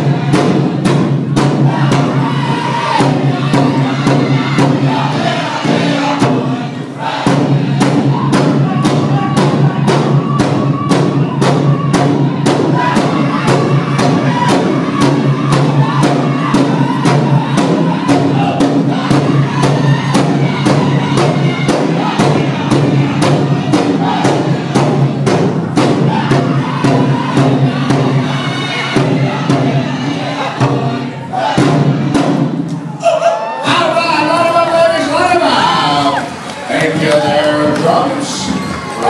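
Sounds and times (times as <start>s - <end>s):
big drum beating: 0.0s - 33.0s
crowd noise in a hall: 0.0s - 39.0s
group chanting in high voices: 0.0s - 39.0s.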